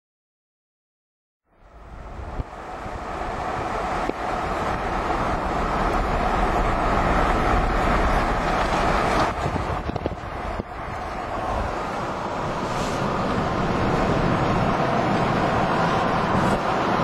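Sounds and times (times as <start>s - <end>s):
car road and wind noise: 1.5s - 17.0s.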